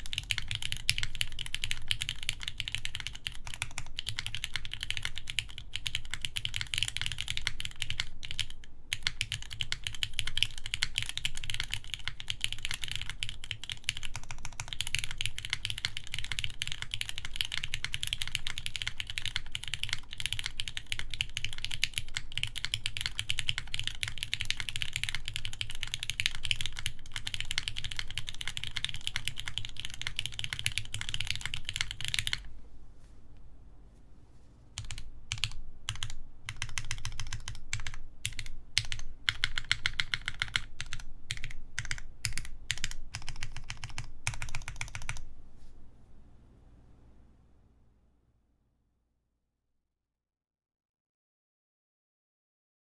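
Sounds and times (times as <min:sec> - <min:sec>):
mechanical keyboard typing: 0:00.0 - 0:32.5, 0:34.8 - 0:45.3.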